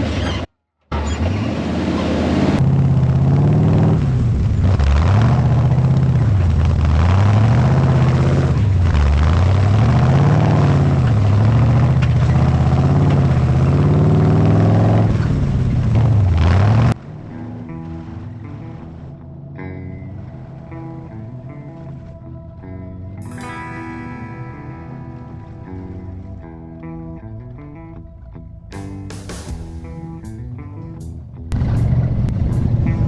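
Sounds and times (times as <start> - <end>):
truck engine revving: 0.0 - 28.0, 28.7 - 33.0.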